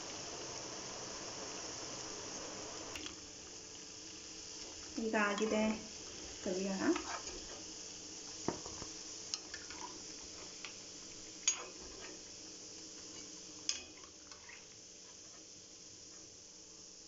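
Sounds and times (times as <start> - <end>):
deep-frying sizzle: 0.0 - 17.0.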